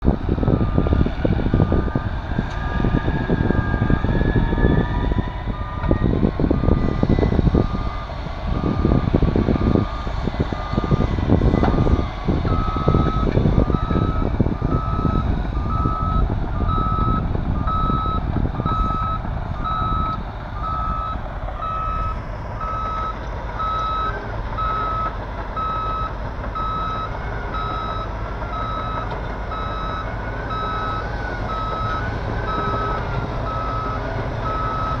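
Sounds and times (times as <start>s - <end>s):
heavy diesel engines under load: 0.0s - 35.0s
reversing alarm beeping: 0.2s - 35.0s.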